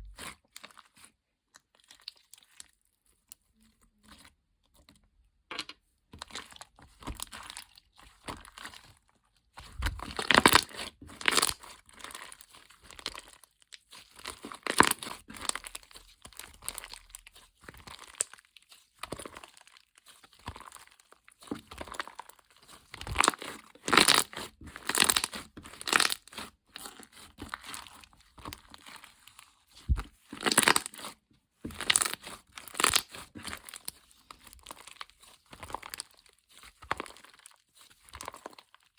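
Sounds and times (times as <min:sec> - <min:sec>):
wrapping material crinkling and tearing: 0:06.3 - 0:38.9.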